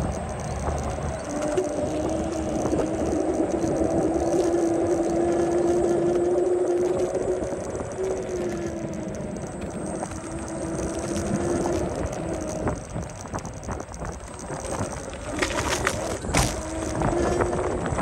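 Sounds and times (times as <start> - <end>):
electric motor whine: 0.0 - 18.0
scooter tyres rattling on bricks: 0.0 - 18.0
sharp clicks and rattles: 0.0 - 18.0.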